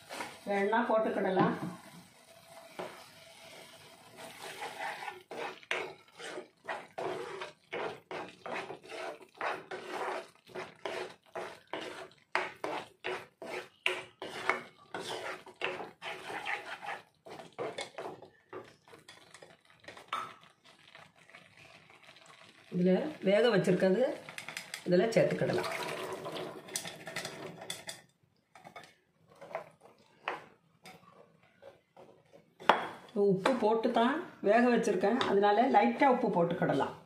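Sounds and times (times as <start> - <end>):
wooden spatula scraping metal pan: 0.0 - 24.9, 26.6 - 28.0, 28.6 - 34.1.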